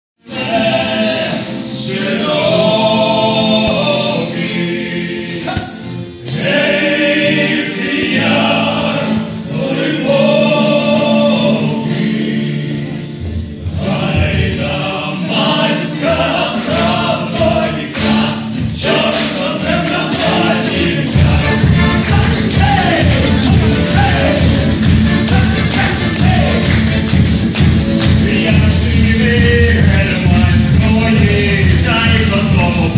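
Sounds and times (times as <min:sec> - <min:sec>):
choir singing: 0:00.2 - 0:32.9
steady percussion beat: 0:03.4 - 0:32.9.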